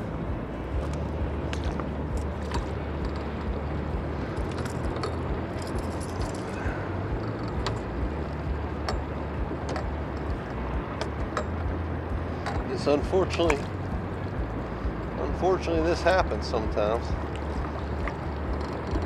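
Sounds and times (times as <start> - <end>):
boat motor running: 0.0 - 19.0
light clicks and rattles: 0.7 - 19.0.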